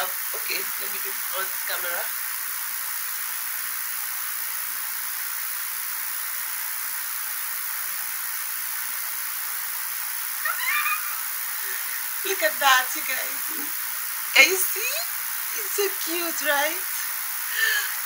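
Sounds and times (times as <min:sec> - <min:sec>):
high-pitched recording hiss: 0:00.0 - 0:18.0.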